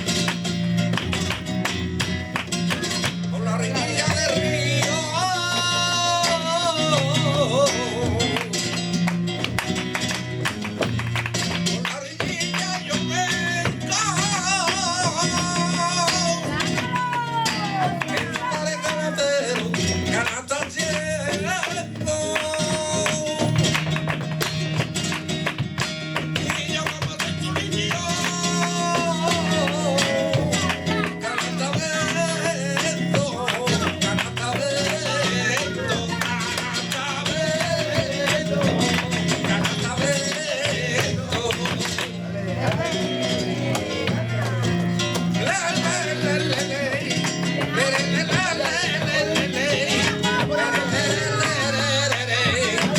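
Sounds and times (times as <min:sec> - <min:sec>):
flamenco guitar: 0:00.0 - 0:52.9
man singing flamenco: 0:00.0 - 0:52.9.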